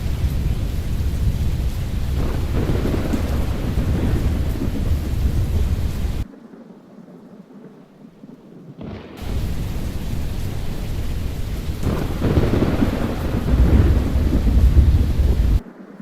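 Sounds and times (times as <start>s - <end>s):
rain: 0.0s - 16.0s
thunder rumbling: 0.0s - 16.0s.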